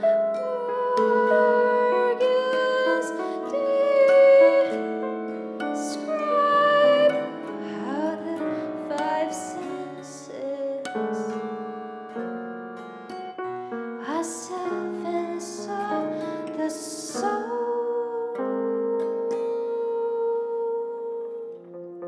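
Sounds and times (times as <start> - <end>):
piano and keyboard notes: 0.0 - 22.0.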